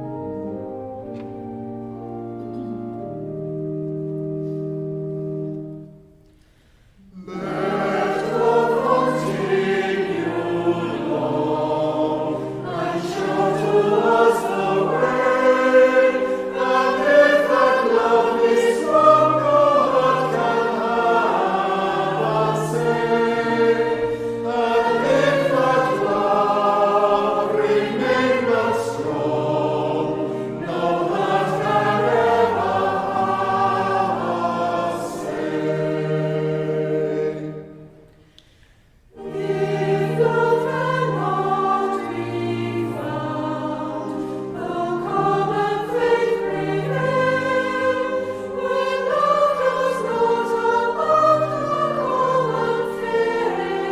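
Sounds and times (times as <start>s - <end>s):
group singing a hymn: 7.0s - 53.9s.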